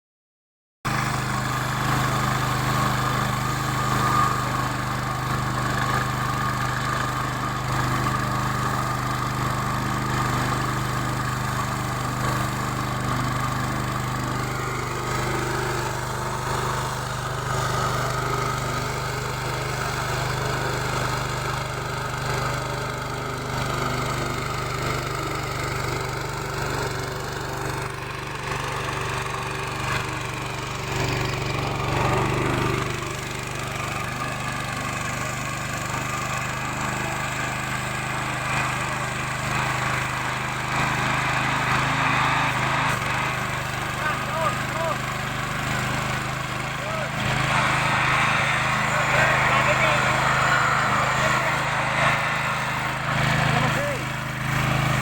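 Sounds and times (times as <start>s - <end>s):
diesel locomotive engine running: 0.9s - 55.0s.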